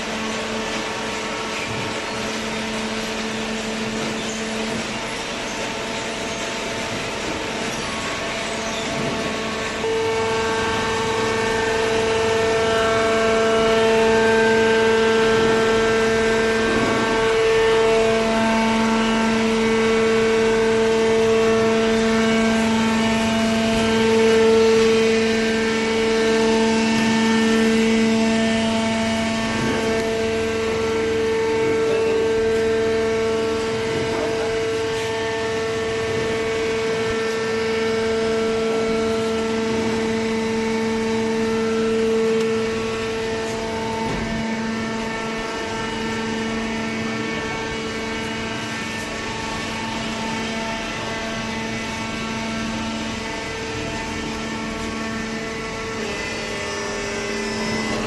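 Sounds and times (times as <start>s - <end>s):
hydraulic pump motor humming: 0.0s - 58.0s.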